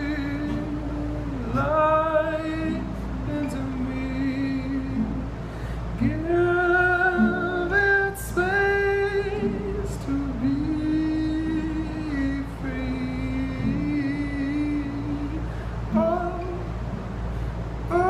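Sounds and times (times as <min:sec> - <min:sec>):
man singing long notes: 0:00.0 - 0:05.4, 0:06.0 - 0:16.8
acoustic guitar: 0:00.0 - 0:18.0.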